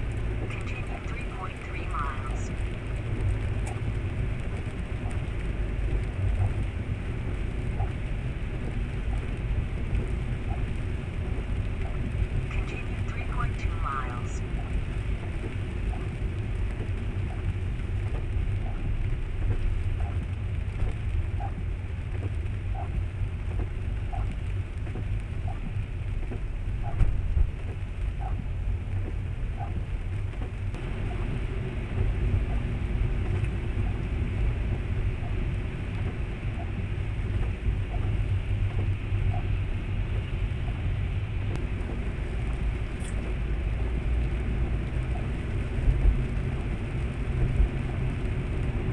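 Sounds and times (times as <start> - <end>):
light ticks: 0.0 - 31.2, 32.4 - 34.0, 34.7 - 39.5, 41.5 - 43.5
car road and engine rumble: 0.0 - 48.9
rain and wet tyres hissing: 0.0 - 48.9.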